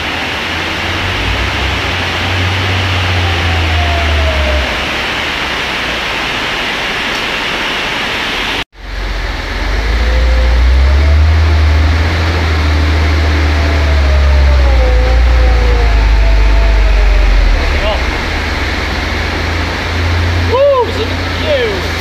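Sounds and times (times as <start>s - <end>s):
diesel truck engine rumble: 0.0s - 6.4s, 8.8s - 22.0s.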